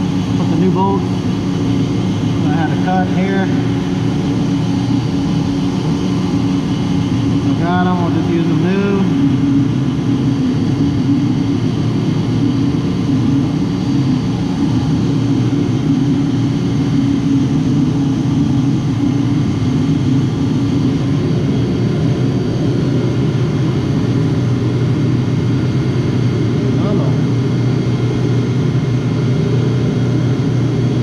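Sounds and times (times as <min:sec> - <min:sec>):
machinery droning: 0:00.0 - 0:31.0.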